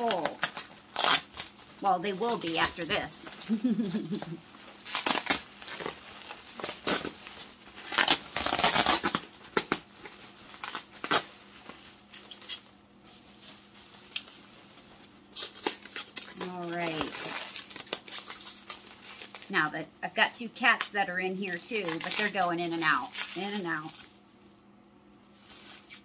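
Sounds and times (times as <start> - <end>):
packing material crinkling: 0.0 - 19.7, 20.4 - 26.0.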